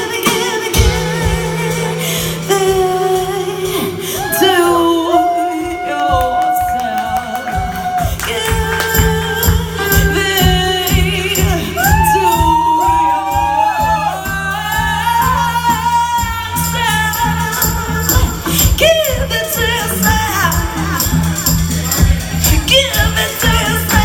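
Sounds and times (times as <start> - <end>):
person singing wordless lines: 0.0 - 21.2
rhythmic low drum beat: 0.0 - 24.0.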